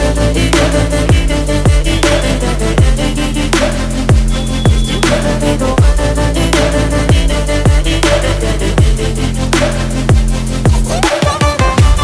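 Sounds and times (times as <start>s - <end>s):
electronic beat with deep bass: 0.0s - 12.0s.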